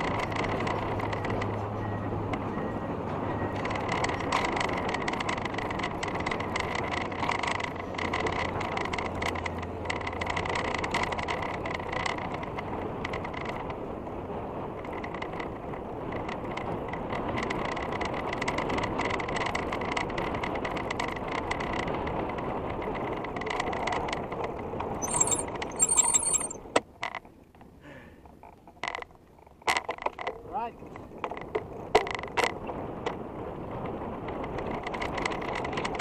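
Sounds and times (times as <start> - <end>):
small clicks and rattles: 0.0 - 1.7, 3.6 - 13.8, 14.7 - 36.0
bike tyres rolling on bridge deck: 3.1 - 27.7, 28.3 - 36.0.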